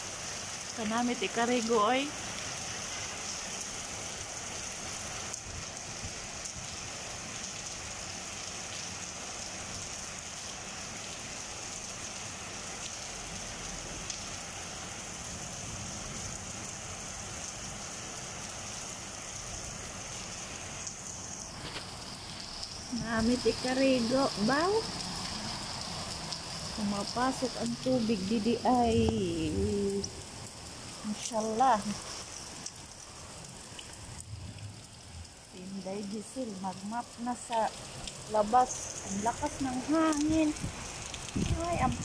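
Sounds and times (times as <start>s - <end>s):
rain falling on paving: 0.0s - 42.0s.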